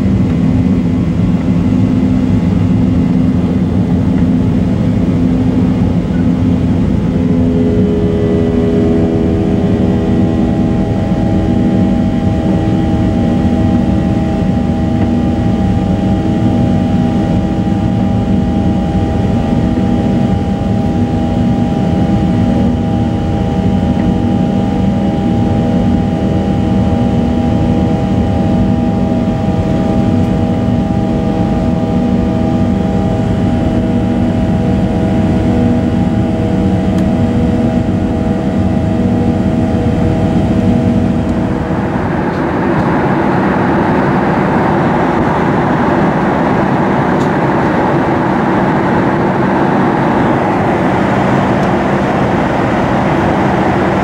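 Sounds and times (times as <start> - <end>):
jet engine drone: 0.0 - 54.0
rushing air in aircraft cabin: 0.0 - 54.0.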